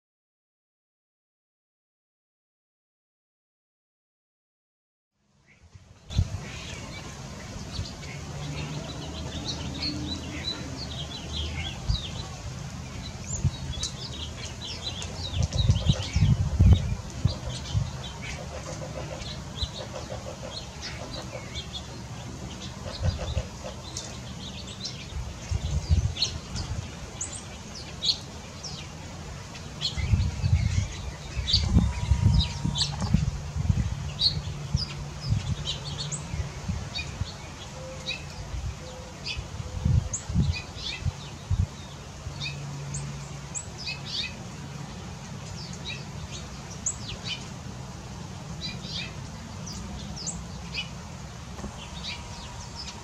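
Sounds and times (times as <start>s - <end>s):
songbirds chirping: 5.2s - 53.0s.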